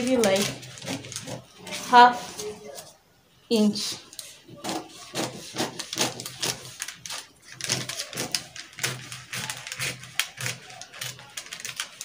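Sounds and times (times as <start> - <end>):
scissors cutting paper: 0.0 - 2.0, 4.1 - 12.0
paper rustling: 0.0 - 3.0, 3.8 - 12.0.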